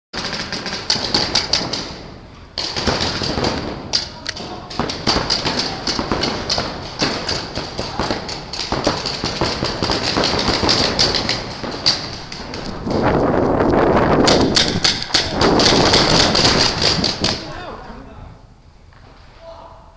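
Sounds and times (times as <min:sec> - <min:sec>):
paintball markers firing: 0:00.2 - 0:17.6.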